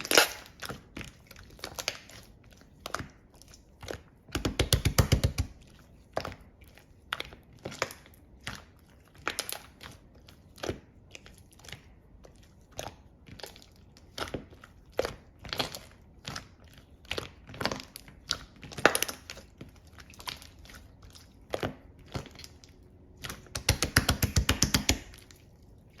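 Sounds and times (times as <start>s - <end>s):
slime popping and crackling: 0.0s - 26.0s.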